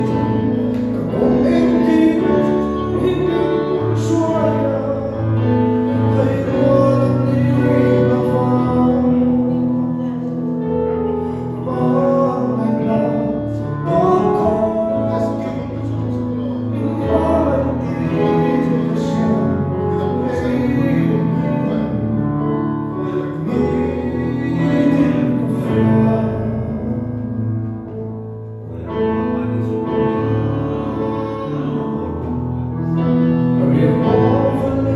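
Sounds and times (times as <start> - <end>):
two people singing: 0.0 - 10.5, 11.2 - 27.9, 28.7 - 34.9
instrumental accompaniment: 0.0 - 34.9.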